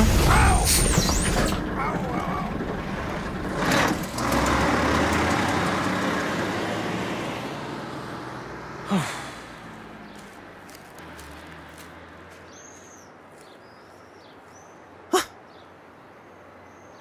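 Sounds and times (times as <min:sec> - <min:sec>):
bus driving off: 0:00.0 - 0:17.0.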